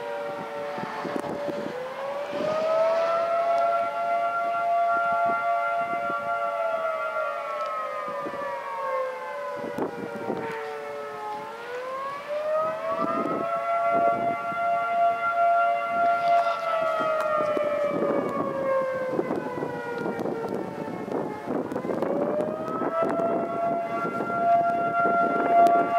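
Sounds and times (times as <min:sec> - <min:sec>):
dual-tone warning siren: 0:00.0 - 0:25.9
wind buffeting microphone: 0:00.0 - 0:25.9.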